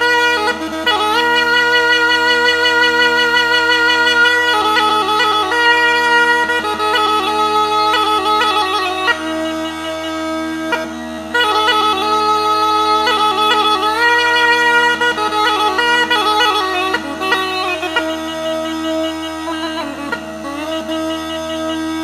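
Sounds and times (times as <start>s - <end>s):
bagpipe folk melody with drone: 0.0s - 22.0s.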